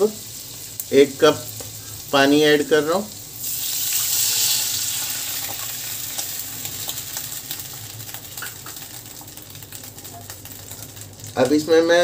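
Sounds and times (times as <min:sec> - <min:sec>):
water sizzling in frying pan: 0:00.0 - 0:12.0.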